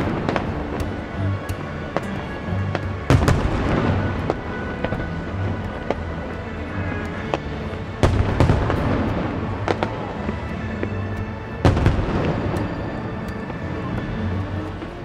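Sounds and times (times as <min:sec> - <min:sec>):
fireworks heavy bangs: 0:00.0 - 0:15.0
fireworks pops and crackles: 0:00.0 - 0:15.0.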